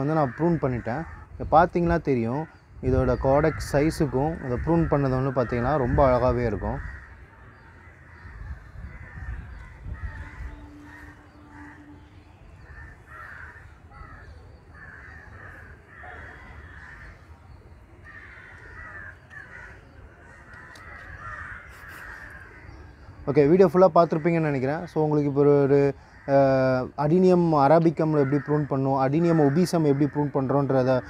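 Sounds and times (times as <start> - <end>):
crows cawing: 0.0 - 25.1, 26.0 - 31.0.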